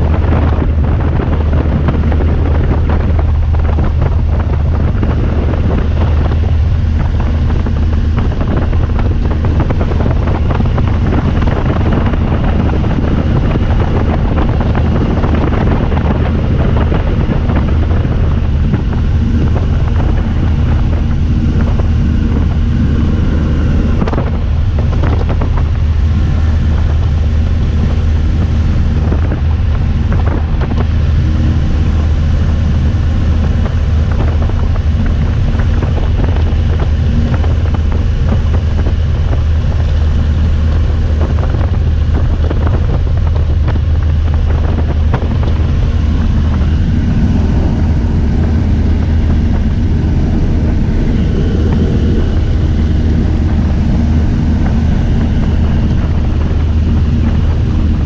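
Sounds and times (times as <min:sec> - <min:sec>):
aircraft engine droning: 0:00.0 - 0:58.0
wind buffeting microphone: 0:00.0 - 0:58.0
wind rushing: 0:00.0 - 0:58.0.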